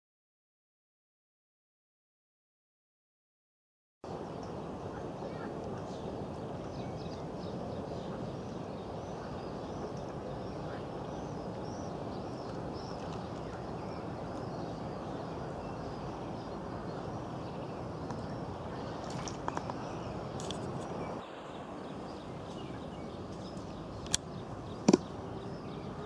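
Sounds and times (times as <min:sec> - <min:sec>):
low rushing outdoor noise: 0:04.0 - 0:26.0
small birds chirping: 0:04.1 - 0:26.0.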